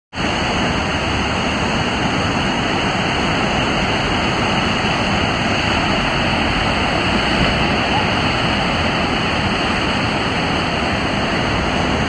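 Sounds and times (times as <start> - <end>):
whitewater rapids crashing: 0.2 - 12.0.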